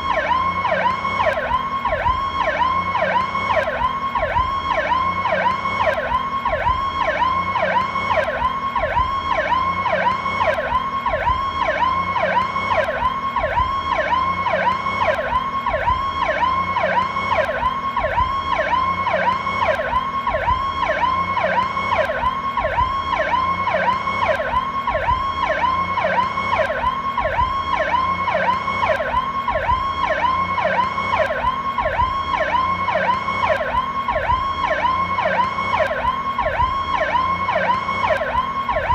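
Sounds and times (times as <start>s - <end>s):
siren wailing: 0.0s - 38.9s.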